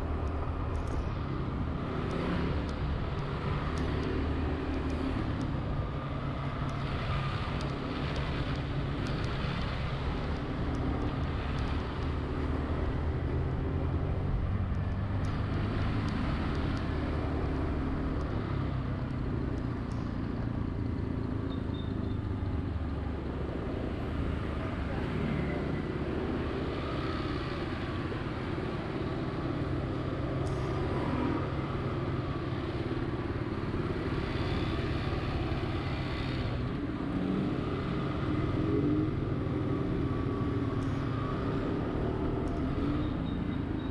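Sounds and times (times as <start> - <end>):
road noise: 0.0 - 43.9.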